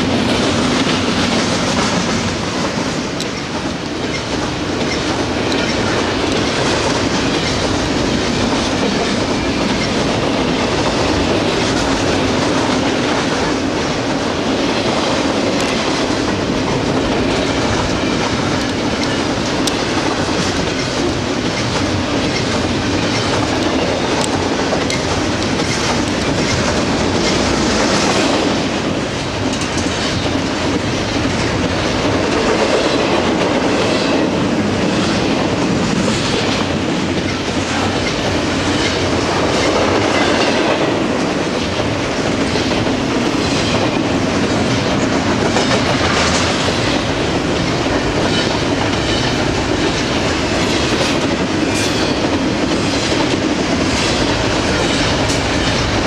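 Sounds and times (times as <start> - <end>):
freight train wheels on rails: 0.0 - 56.0
sharp clicks from train wheels: 0.0 - 56.0.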